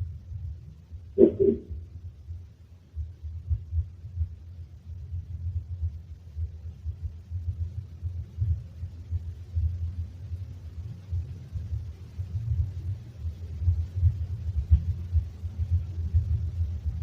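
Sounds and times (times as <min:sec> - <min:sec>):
deep rumbling noise: 0:00.0 - 0:17.0.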